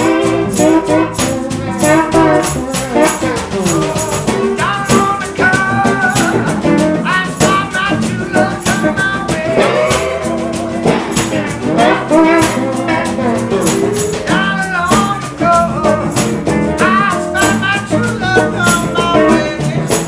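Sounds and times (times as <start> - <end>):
blues-rock band on electric guitars: 0.0 - 20.0
sliding guitar lead: 0.0 - 20.0
steady shaker rhythm: 0.0 - 20.0.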